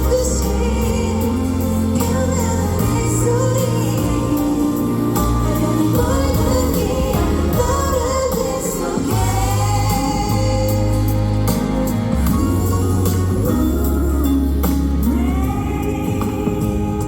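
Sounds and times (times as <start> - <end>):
band playing with bass: 0.0 - 17.0
woman singing: 0.0 - 17.0.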